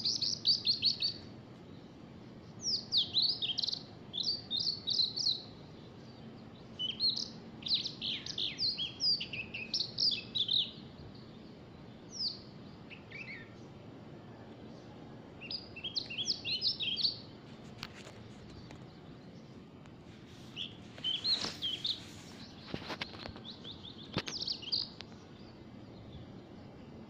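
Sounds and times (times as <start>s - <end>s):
birds chirping: 0.0s - 27.0s
steady background hiss: 0.0s - 27.0s.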